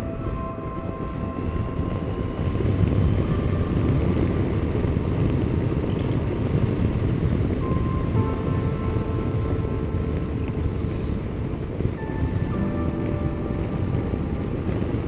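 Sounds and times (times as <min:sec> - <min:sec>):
motorcycle engine and wind roar: 0:00.0 - 0:15.0.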